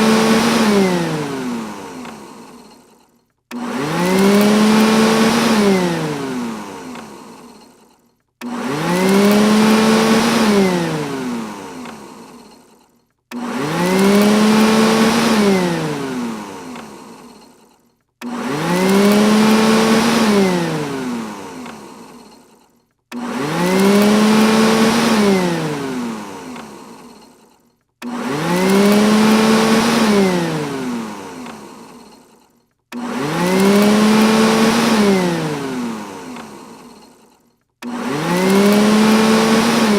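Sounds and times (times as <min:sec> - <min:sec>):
robot vacuum motor whirring: 0:00.0 - 0:39.9.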